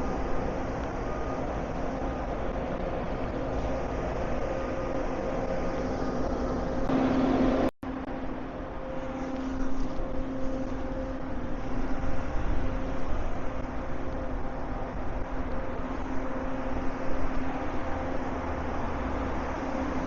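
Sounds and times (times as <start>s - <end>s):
constant low hum: 0.0s - 20.0s.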